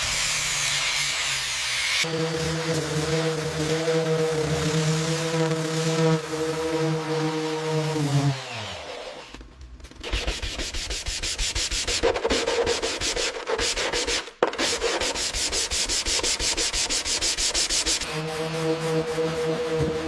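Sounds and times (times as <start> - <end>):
sanding strokes: 0.0 - 9.0, 10.0 - 20.0.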